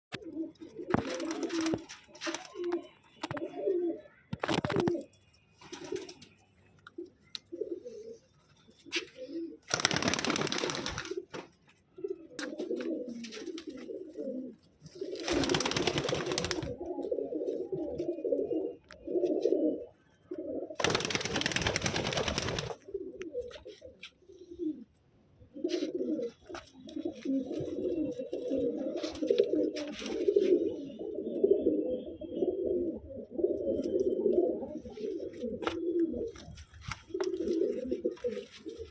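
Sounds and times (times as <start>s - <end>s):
pigeons cooing: 0.2s - 5.2s, 7.0s - 11.3s, 12.0s - 38.9s.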